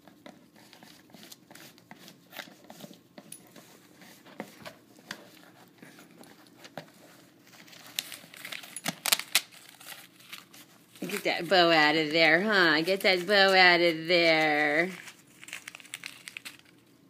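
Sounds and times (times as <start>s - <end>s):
wrapping paper rustling: 0.0s - 17.0s.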